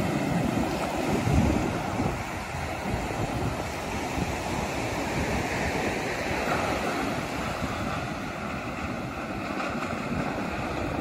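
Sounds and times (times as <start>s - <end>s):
waves washing up beach: 0.0s - 11.0s
wind buffeting microphone: 0.0s - 11.0s.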